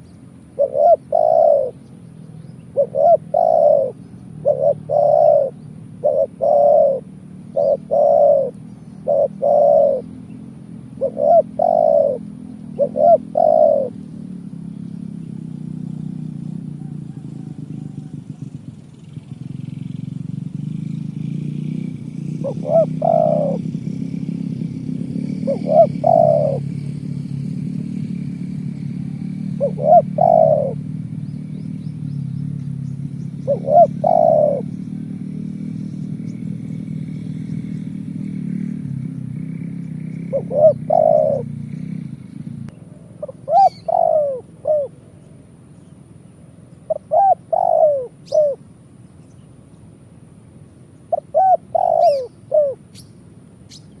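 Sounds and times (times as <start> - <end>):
dove cooing: 0.0 - 48.8, 50.4 - 54.0
low steady rumble: 0.0 - 54.0.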